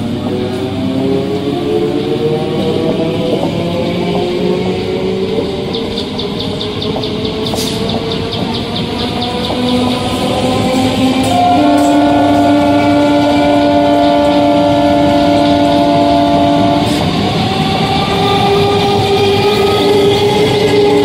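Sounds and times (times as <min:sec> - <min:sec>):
multi-tone train horn: 0:00.0 - 0:21.0
train wheels on rails: 0:00.0 - 0:21.0.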